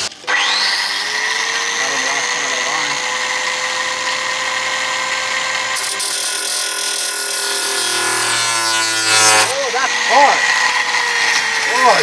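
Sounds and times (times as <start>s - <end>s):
angle grinder whining: 0.0s - 12.0s
grinder disc grinding metal: 0.0s - 12.0s.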